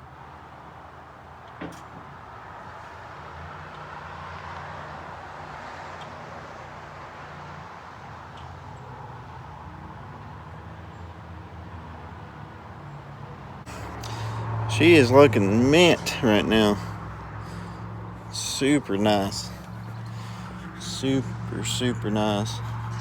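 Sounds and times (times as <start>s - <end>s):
vehicle noise low hum and hiss: 0.0s - 23.0s.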